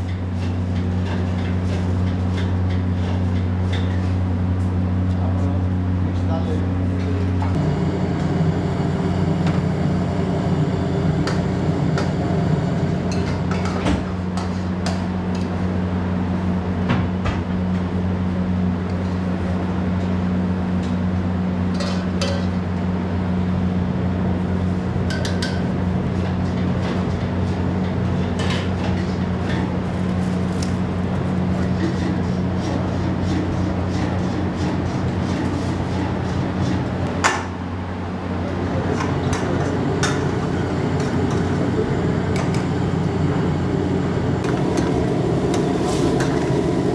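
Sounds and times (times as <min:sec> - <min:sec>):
low kitchen hum: 0:00.0 - 0:46.9.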